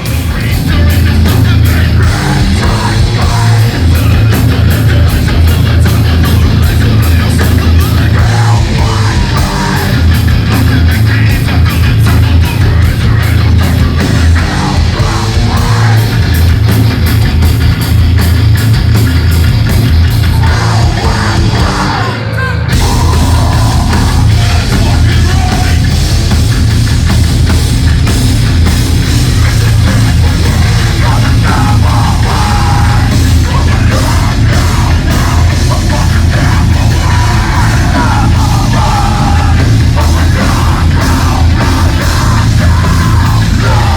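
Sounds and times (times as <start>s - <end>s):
person singing: 0.0s - 16.7s, 20.2s - 26.4s, 29.2s - 43.9s
heavy metal band playing: 0.0s - 43.9s.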